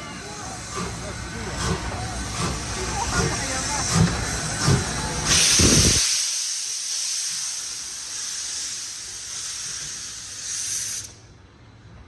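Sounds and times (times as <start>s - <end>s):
steam locomotive venting steam: 0.0s - 11.4s.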